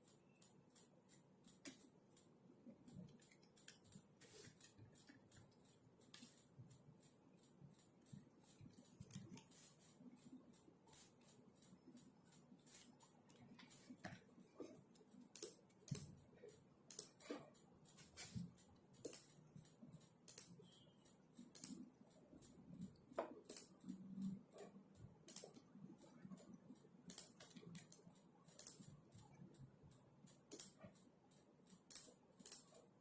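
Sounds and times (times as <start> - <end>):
faint keyboard typing: 0.0 - 33.0.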